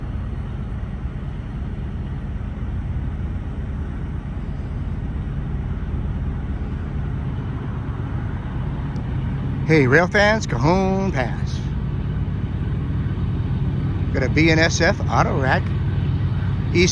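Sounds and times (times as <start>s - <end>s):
diesel locomotives rumbling: 0.0s - 16.9s.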